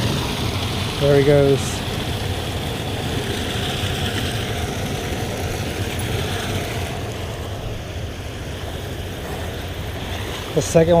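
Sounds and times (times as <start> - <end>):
water pouring over waterfall: 0.0 - 11.0.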